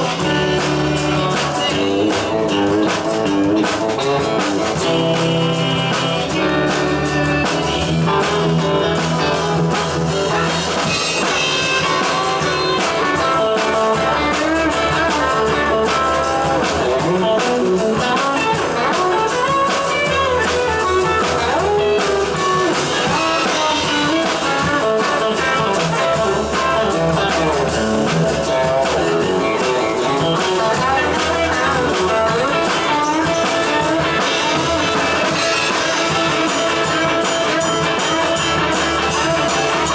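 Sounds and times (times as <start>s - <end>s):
drum kit: 0.0s - 39.9s
electric guitar: 0.0s - 39.9s
rock band playing: 0.0s - 39.9s.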